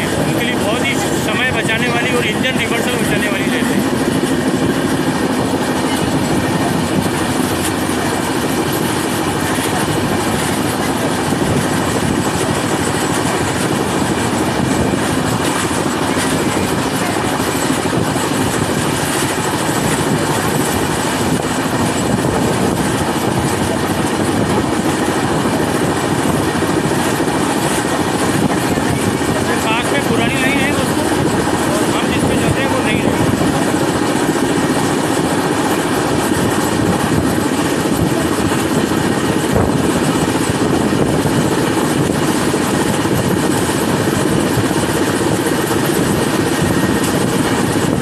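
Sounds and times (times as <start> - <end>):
train wheels rushing on rails: 0.0 - 48.0
wind rushing past microphone: 0.0 - 48.0.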